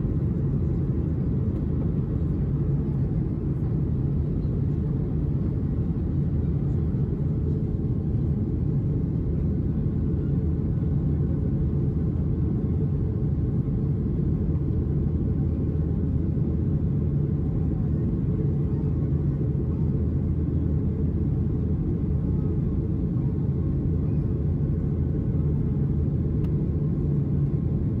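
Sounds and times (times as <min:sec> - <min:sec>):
airplane cabin low rumble: 0:00.0 - 0:28.0.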